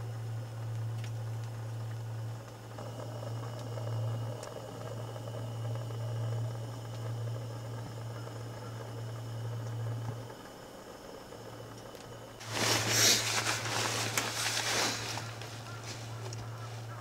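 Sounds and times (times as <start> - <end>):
gas heater humming and hissing: 0.0 - 17.0.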